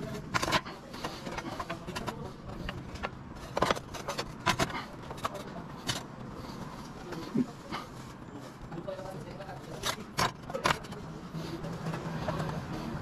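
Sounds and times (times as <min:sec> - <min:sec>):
roof tiles clacking and scraping: 0:00.0 - 0:08.1, 0:09.0 - 0:12.9.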